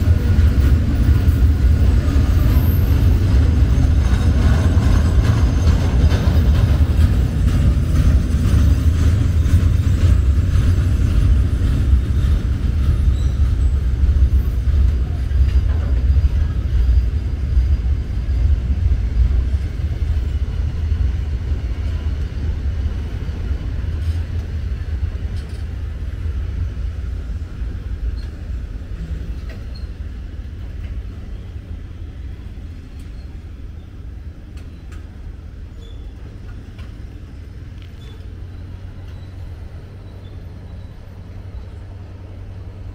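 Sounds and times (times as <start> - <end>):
freight train wagons rumbling: 0.0 - 42.9.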